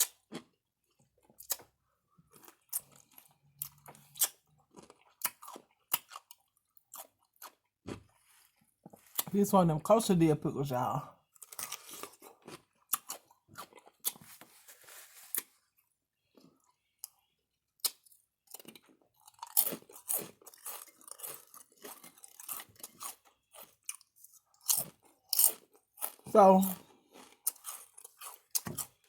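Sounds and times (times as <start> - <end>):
crunchy pickle chewing: 0.0 - 9.3, 11.2 - 29.0.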